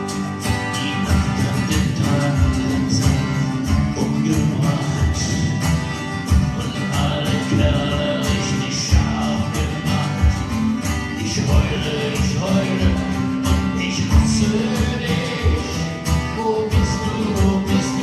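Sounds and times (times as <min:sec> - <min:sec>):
live band with guitar: 0:00.0 - 0:18.0.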